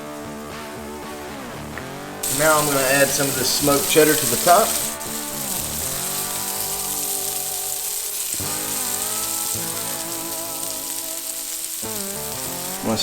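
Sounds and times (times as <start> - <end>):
background music with held notes: 0.0 - 13.0
patties sizzling in a frying pan: 0.0 - 13.0.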